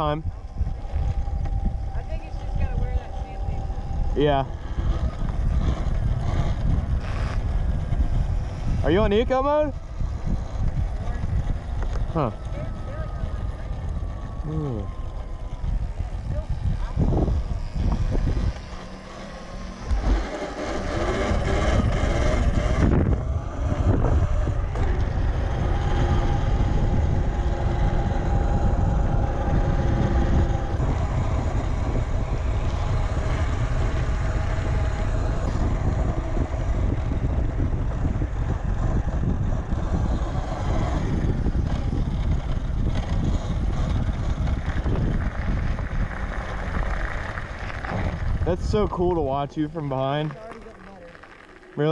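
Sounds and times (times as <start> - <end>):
electric dirt bike running: 0.0 - 51.9
faint steady whine: 0.0 - 51.9
wind buffeting microphone: 0.0 - 51.9.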